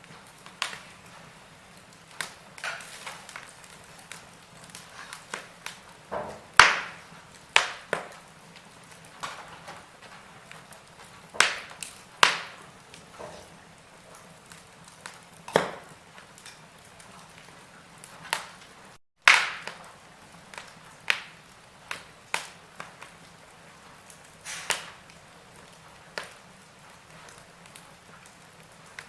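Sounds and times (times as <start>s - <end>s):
sharp pops of fire: 0.0s - 29.0s
wood fire crackling: 0.0s - 29.0s.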